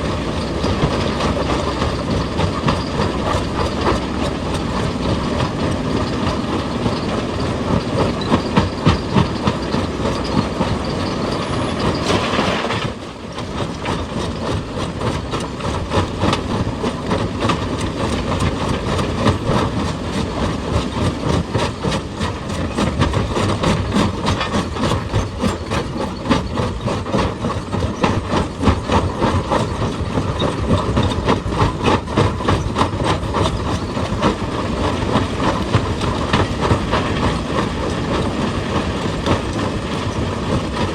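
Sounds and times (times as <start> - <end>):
excavator engine running: 0.0 - 40.9
rapid clatter of knocks: 0.0 - 40.9.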